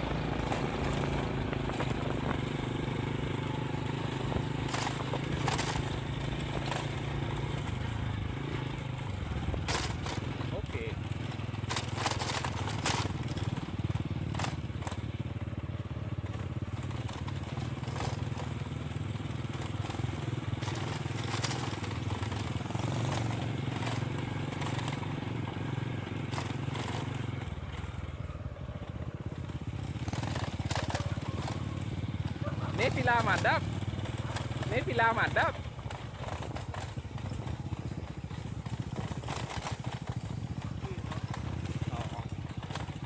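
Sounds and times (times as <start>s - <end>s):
small motorcycle engine running: 0.0s - 43.0s
tyres on gravel clicking: 3.4s - 15.2s, 16.2s - 25.6s, 29.4s - 43.0s.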